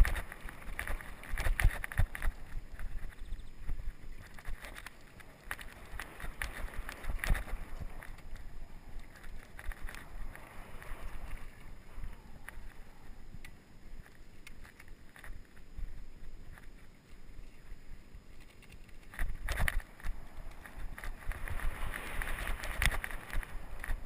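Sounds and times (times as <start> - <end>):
mountain bike rattling: 0.0 - 24.0
wind rumbling on microphone: 0.0 - 24.0.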